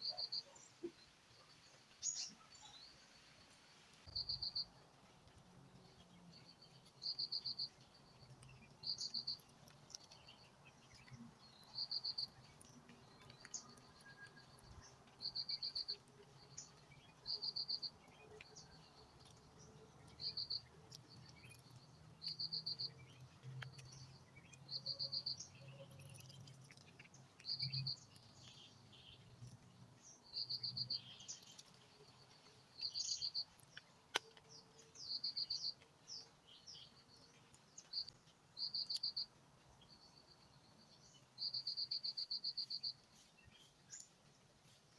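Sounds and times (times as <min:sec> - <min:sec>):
faint chirps: 0:00.0 - 0:44.9.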